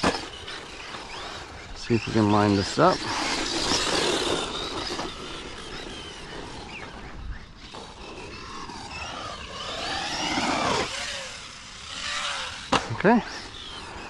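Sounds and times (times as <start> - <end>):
rc truck electric motor whining: 0.0 - 14.0.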